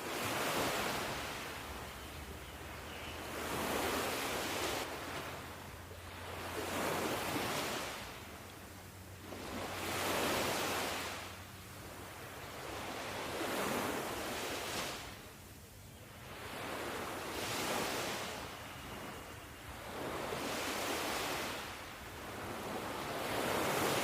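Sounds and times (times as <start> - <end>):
ocean waves washing on shore: 0.0 - 24.0.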